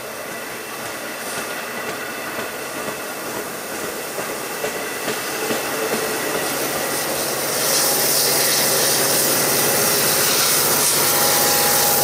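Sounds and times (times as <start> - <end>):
train wheels rolling on track: 0.0 - 12.0.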